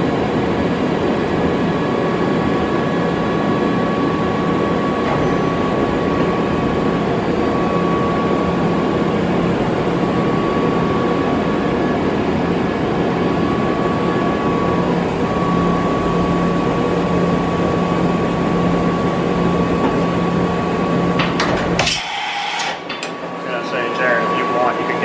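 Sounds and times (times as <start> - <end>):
machine whine and hum: 0.0 - 25.0.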